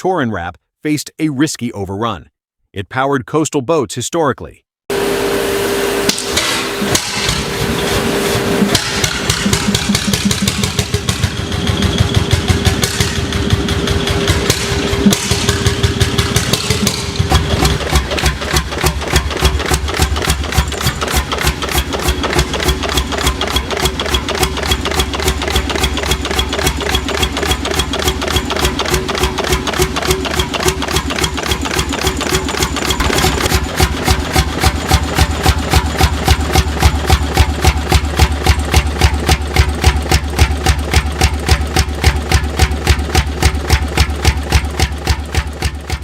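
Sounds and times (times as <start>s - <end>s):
engine knocking beat: 6.1s - 46.0s.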